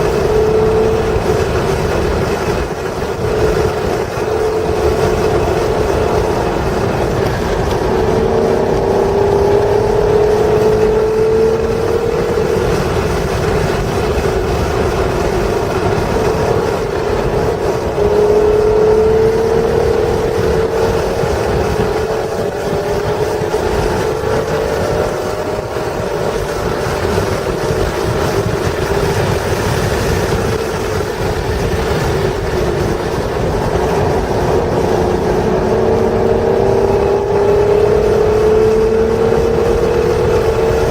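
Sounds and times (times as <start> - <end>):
car engine revving hard: 0.0 - 40.9
wind and road noise: 0.0 - 40.9.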